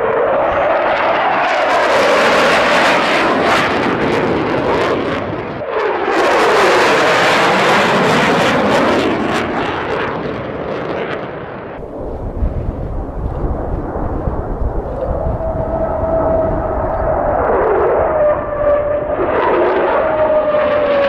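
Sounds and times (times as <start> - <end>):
fighter jet roar: 0.0 - 21.0.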